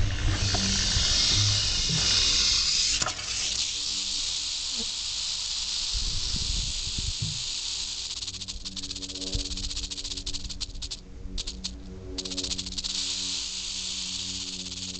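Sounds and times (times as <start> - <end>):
rattlesnake tail rattle buzzing: 0.0 - 14.9.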